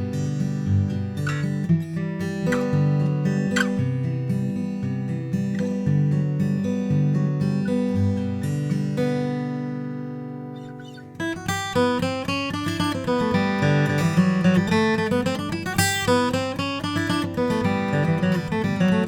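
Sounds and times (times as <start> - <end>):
acoustic guitar strummed and picked: 0.0 - 19.0.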